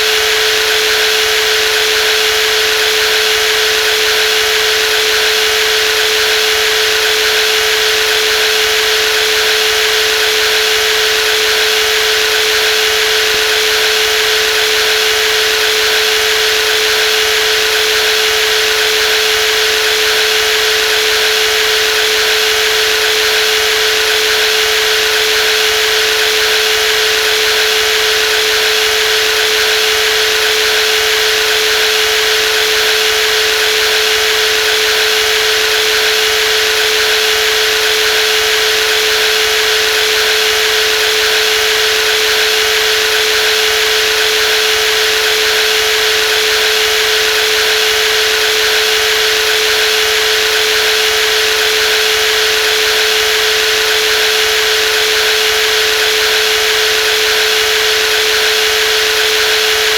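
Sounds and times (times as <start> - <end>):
jigsaw motor whining: 0.0 - 59.9.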